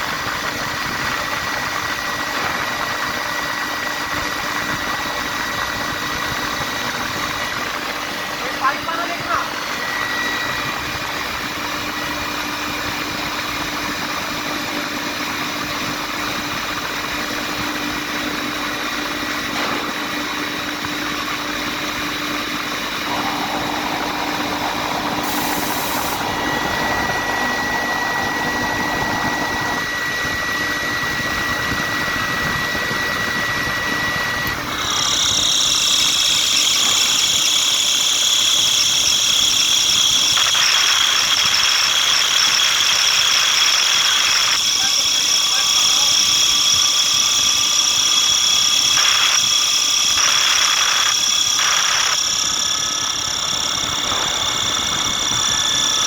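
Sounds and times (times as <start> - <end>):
air compressor humming: 0.0 - 56.0
high-pitched whine: 0.0 - 56.0.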